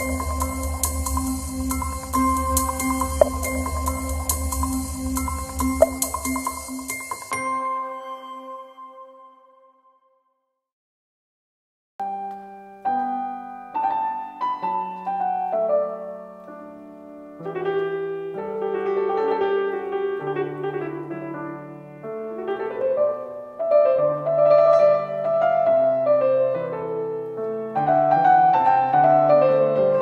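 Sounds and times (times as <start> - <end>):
grand piano chords and melody: 0.0 - 9.6, 12.0 - 30.0.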